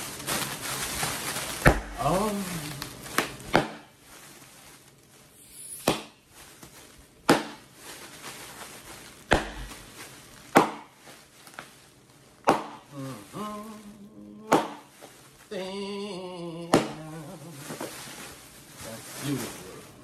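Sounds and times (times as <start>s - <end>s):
air pillows popping: 0.0s - 15.6s, 16.6s - 20.0s
plastic crinkling: 0.0s - 20.0s.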